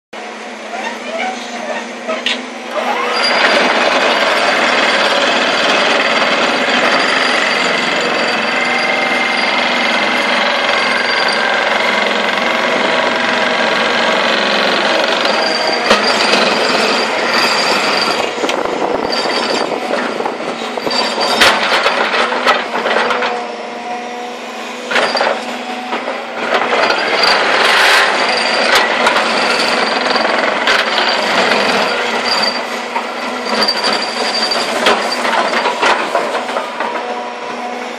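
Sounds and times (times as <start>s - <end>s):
excavator ripper mechanical buzz: 0.2s - 37.9s.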